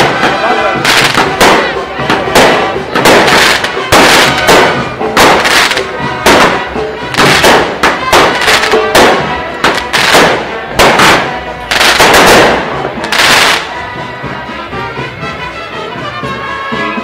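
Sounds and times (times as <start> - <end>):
fireworks bursting with crackle: 0.0 - 14.4.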